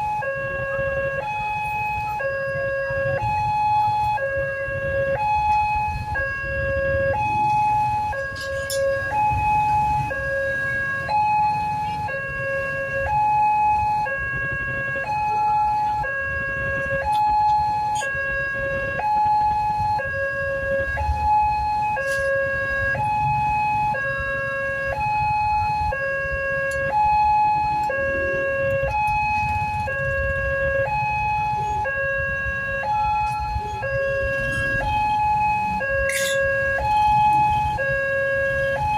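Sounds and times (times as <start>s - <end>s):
two-tone level crossing alarm: 0.0s - 38.9s.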